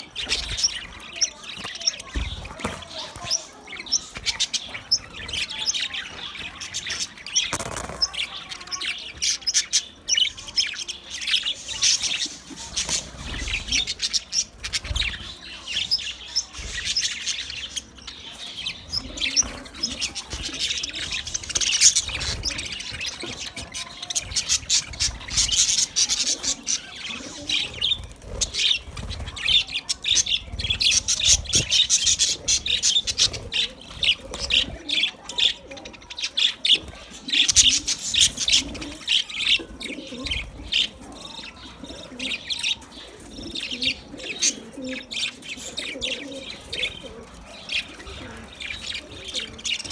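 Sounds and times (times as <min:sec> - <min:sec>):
budgerigars chattering: 0:00.0 - 0:49.9.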